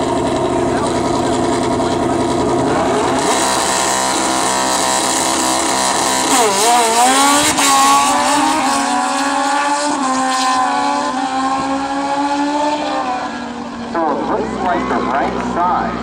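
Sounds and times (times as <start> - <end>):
motorcycle engines revving: 0.0 - 16.0
motorcycles accelerating away: 0.0 - 16.0.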